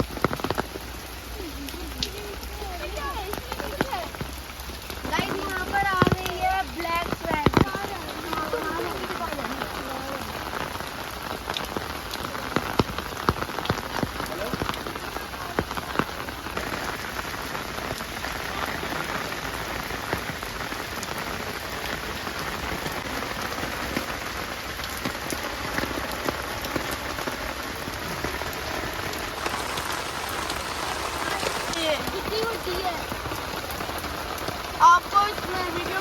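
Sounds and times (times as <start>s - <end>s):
rain falling: 0.0s - 36.0s
raindrops striking close by: 0.0s - 36.0s.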